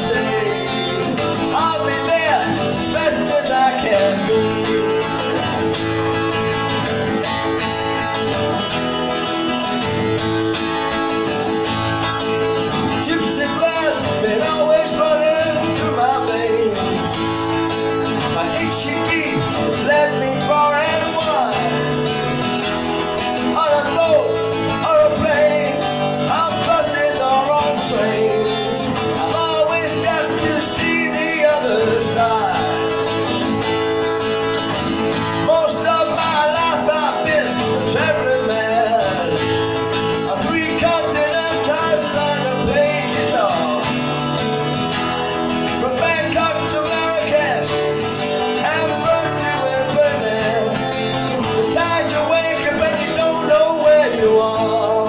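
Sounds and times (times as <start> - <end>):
man singing: 0.0 - 11.2, 12.3 - 55.0
acoustic guitar: 0.0 - 55.0.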